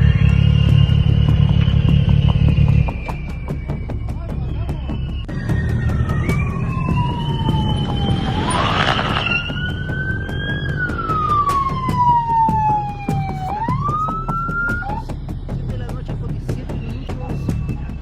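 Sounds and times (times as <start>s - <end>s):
emergency vehicle siren wailing: 0.0s - 15.2s.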